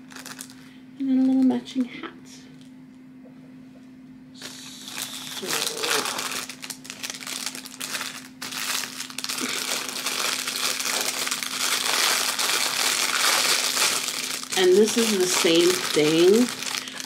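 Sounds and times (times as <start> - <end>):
plastic bag crinkling: 0.0 - 1.9, 4.4 - 17.0.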